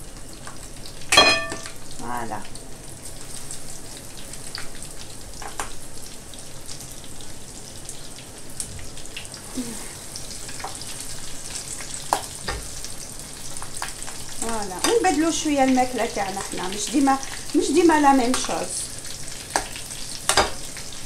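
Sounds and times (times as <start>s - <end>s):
fat sizzling in a frying pan: 0.0s - 21.0s.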